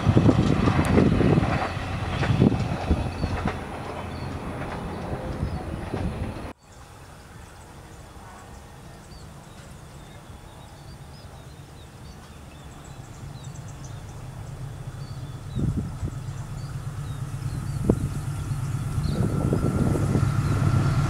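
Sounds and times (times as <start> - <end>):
diesel locomotive rumble: 0.0 - 21.0
small birds chirping: 2.8 - 21.0.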